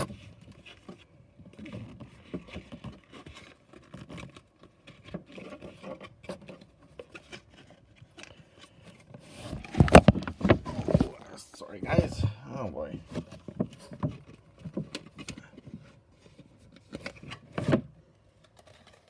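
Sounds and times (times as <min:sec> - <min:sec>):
cardboard being folded: 0:00.0 - 0:12.1, 0:12.9 - 0:19.0.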